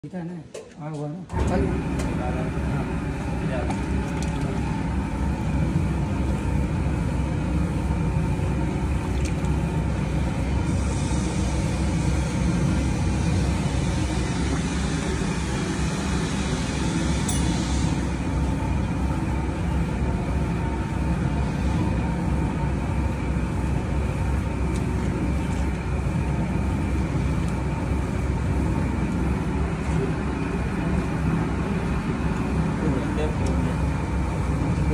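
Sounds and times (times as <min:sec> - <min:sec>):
feed mixer machine hum: 0:01.3 - 0:34.9.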